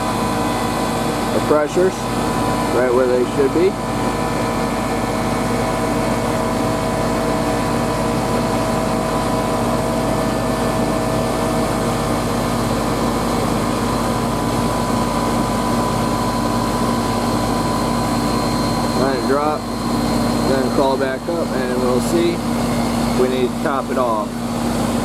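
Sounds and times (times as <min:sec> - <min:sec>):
air conditioner compressor hum: 0:00.0 - 0:25.0
condenser fan: 0:00.0 - 0:25.0.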